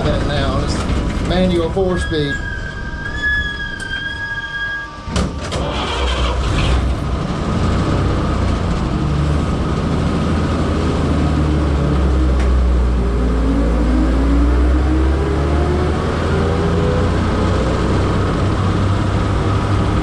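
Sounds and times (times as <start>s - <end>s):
road noise: 0.0s - 20.0s
truck engine droning: 0.0s - 20.0s.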